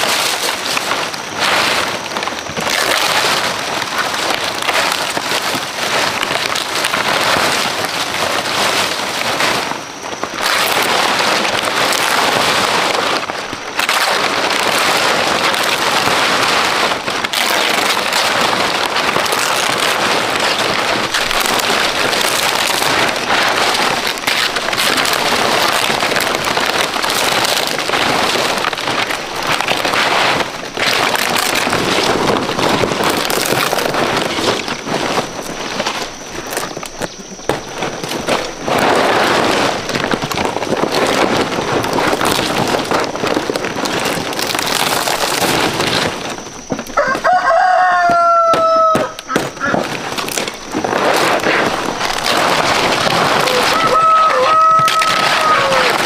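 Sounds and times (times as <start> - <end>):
palm leaves rustling: 0.0 - 56.0.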